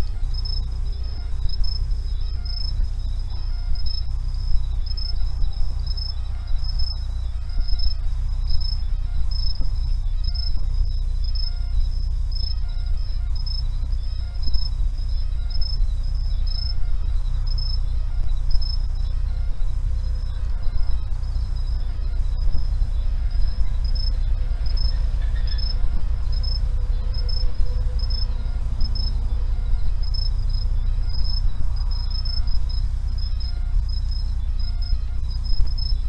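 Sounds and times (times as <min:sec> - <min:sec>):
insects chirping: 0:00.0 - 0:36.0
low rumble: 0:00.0 - 0:36.0.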